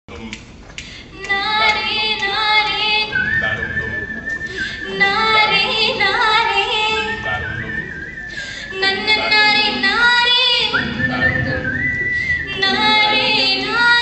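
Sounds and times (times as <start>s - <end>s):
vocal group singing in harmony: 1.2s - 14.0s.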